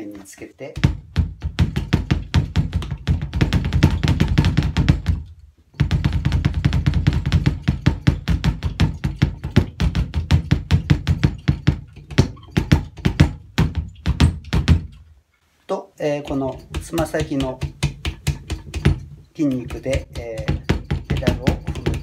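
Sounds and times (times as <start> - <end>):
fast bass drum strokes: 0.8 - 14.9, 16.2 - 22.0.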